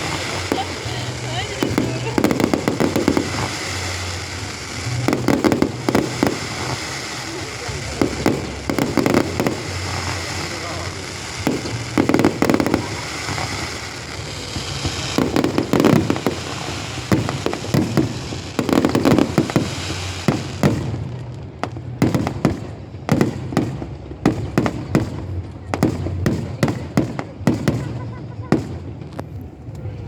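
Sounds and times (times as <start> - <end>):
fireworks sharp bangs: 0.0 - 29.7
fireworks crackling with hiss: 0.0 - 30.0.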